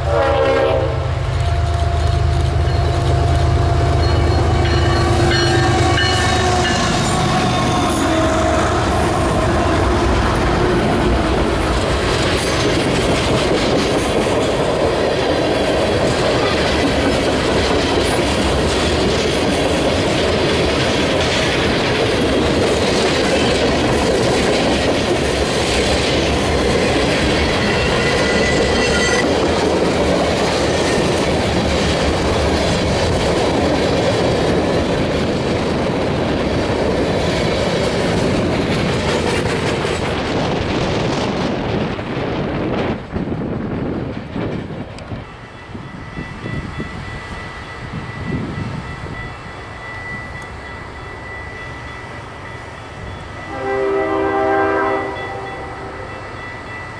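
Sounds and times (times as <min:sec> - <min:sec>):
diesel locomotive hum: 0:00.0 - 0:56.9
train cars rumbling past: 0:00.0 - 0:56.9.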